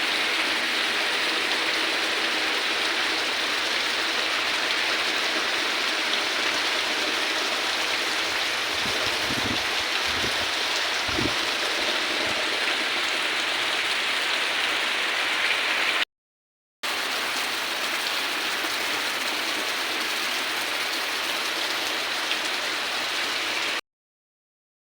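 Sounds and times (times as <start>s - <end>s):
soft steady rain: 0.0s - 16.0s, 16.8s - 23.8s.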